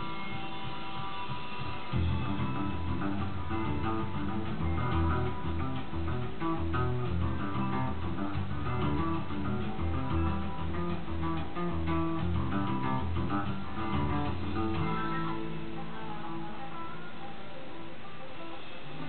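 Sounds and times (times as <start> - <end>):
bass guitar line: 0.0 - 19.0
strummed guitars: 0.0 - 19.0.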